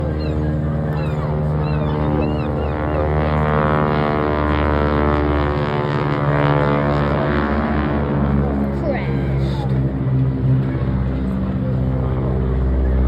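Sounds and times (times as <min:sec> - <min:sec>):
biplane engine and propeller drone: 0:00.0 - 0:13.0.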